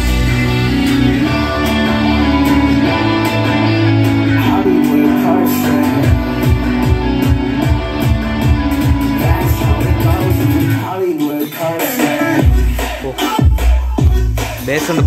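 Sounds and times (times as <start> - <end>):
song with guitar and deep bass: 0.0 - 15.0.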